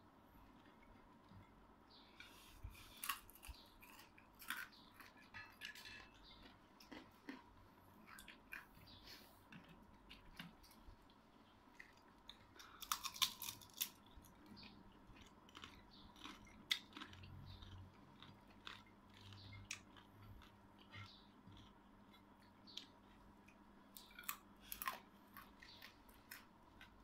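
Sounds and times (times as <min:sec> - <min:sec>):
person chewing food: 0:00.4 - 0:27.0.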